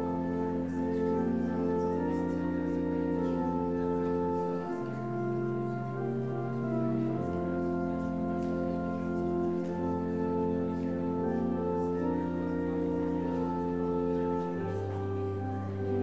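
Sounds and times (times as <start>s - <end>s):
church organ chords: 0.0s - 16.0s.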